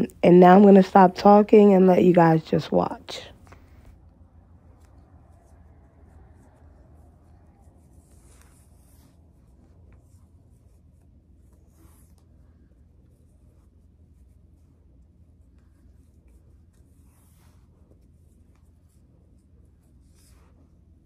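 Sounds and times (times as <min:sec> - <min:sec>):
hair rustling while braided: 0:00.0 - 0:21.0
low steady hum: 0:00.0 - 0:21.0.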